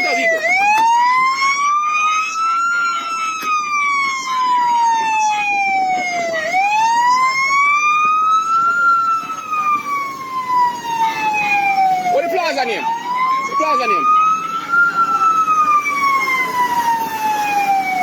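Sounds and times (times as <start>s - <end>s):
police siren wailing: 0.0s - 18.0s.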